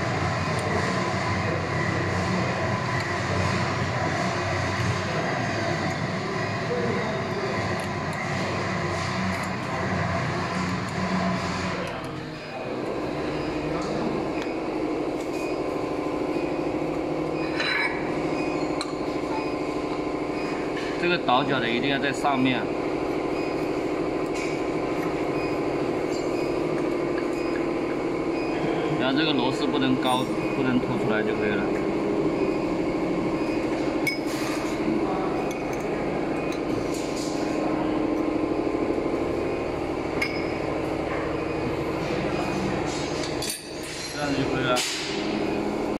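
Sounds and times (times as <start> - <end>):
machinery droning: 0.0 - 45.9
steady mechanical hum: 0.0 - 45.9.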